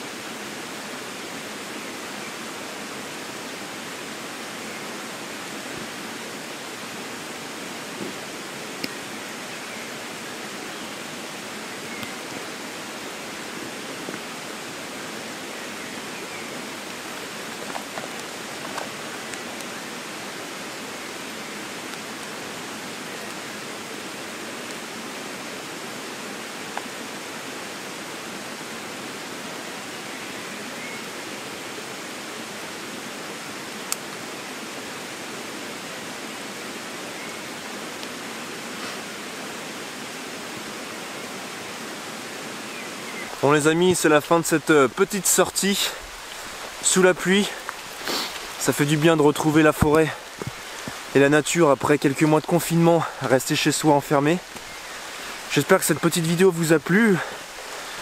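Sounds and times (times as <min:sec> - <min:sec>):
rain on leaves: 0:00.0 - 0:58.0.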